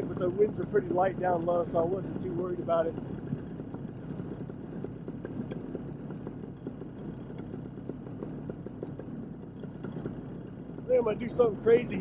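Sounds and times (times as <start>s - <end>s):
paramotor engine droning: 0.0s - 12.0s.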